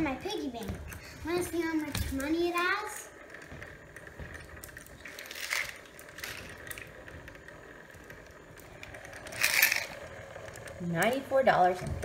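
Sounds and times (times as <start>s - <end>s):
faint clicks and rustles: 0.0s - 12.0s.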